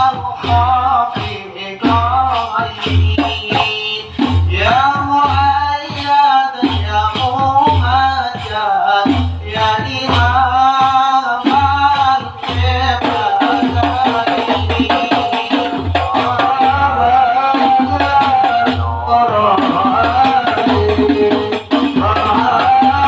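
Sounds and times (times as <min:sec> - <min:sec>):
frame drums beating and slapping: 0:00.0 - 0:23.0
men singing: 0:00.0 - 0:23.0.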